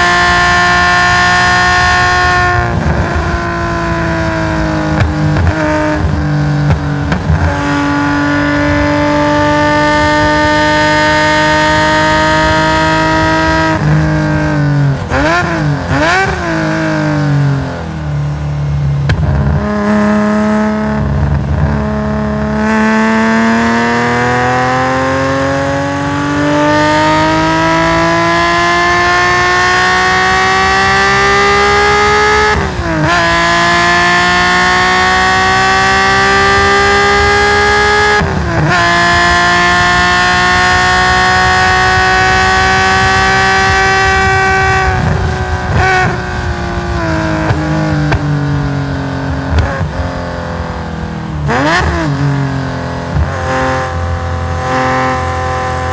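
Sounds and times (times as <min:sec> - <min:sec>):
gear changes: 0:00.0 - 0:55.9
race car engine revving: 0:00.0 - 0:55.9.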